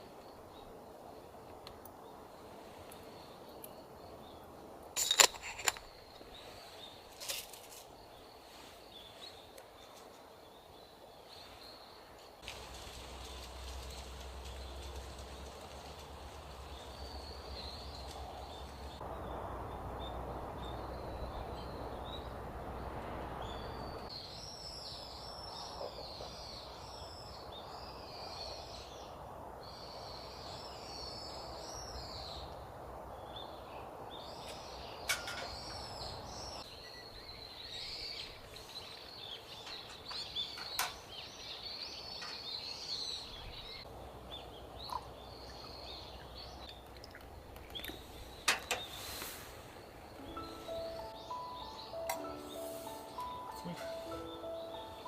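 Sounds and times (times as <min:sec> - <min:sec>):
outdoor background hiss: 0:00.0 - 0:55.0
small birds chirping: 0:00.0 - 0:55.0.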